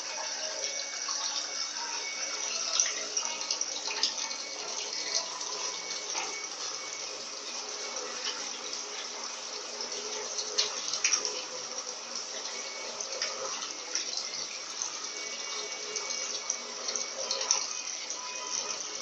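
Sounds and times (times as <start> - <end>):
washing machine spinning: 0.0 - 19.0
water draining: 0.0 - 19.0.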